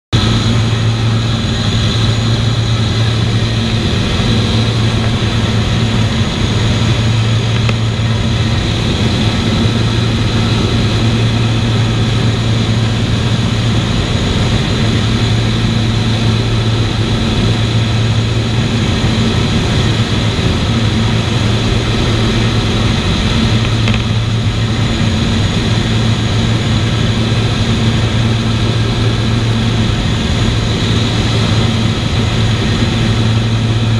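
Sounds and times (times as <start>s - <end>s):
propeller aircraft engines droning: 0.1s - 33.9s.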